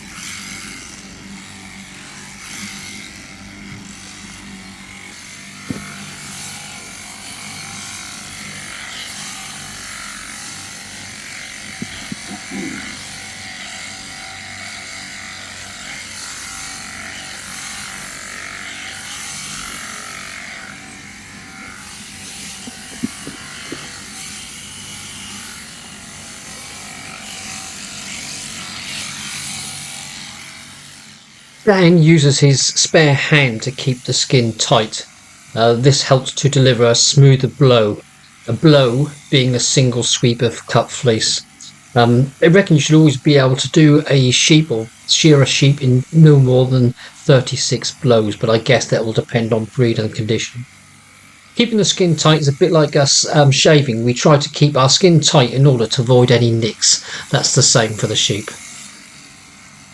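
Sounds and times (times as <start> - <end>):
electric shears cutting fleece: 0.0 - 59.9.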